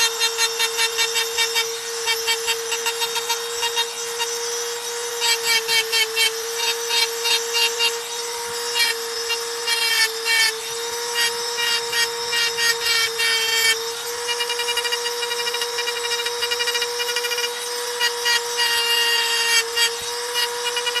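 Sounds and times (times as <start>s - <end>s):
rotary tool whining: 0.0s - 21.0s.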